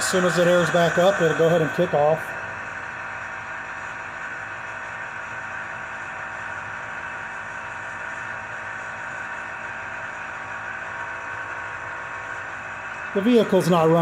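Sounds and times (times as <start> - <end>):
electric air compressor running: 0.0 - 14.0.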